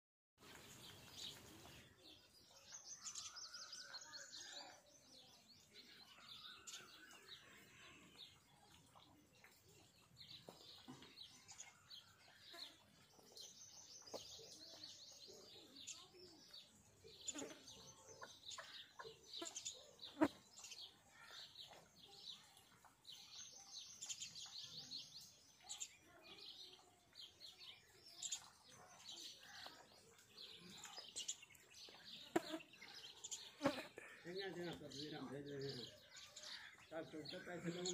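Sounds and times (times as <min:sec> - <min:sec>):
small birds chirping: 0:00.4 - 0:37.9.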